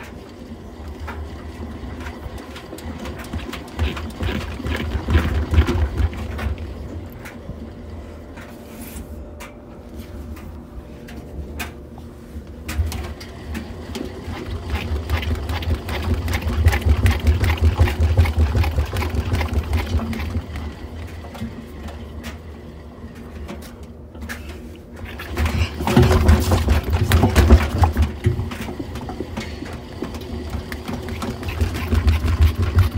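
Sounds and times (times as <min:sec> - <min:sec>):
washing machine drum rumbling: 0:00.0 - 0:08.5, 0:12.6 - 0:32.9.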